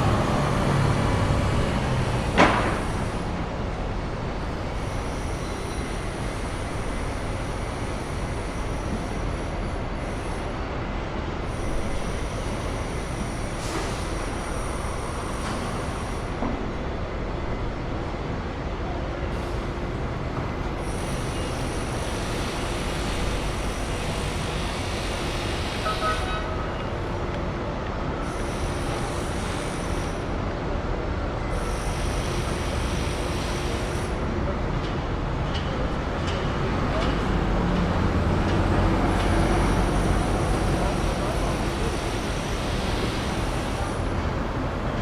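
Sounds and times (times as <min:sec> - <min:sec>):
traffic and rail vehicles rumbling: 0:00.0 - 0:45.0.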